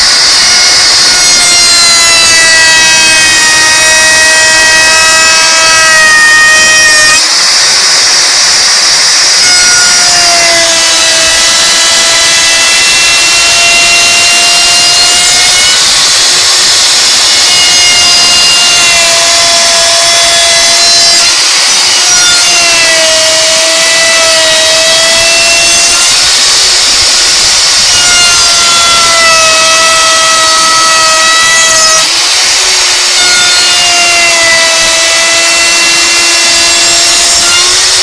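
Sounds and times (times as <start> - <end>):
hiss of wood cutting: 0.0 - 38.0
router motor whine: 0.0 - 38.0.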